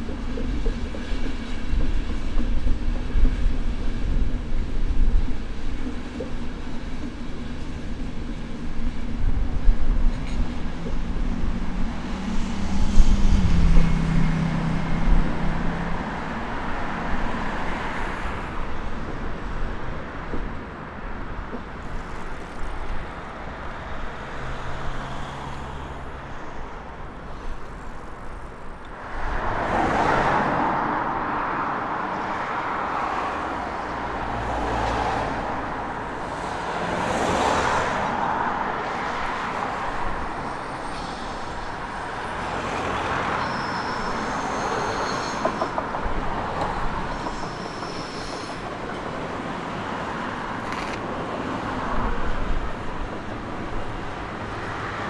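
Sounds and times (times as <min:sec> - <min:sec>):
road traffic with cars passing: 0:00.0 - 0:55.0
train rolling over a bridge: 0:00.0 - 0:55.0.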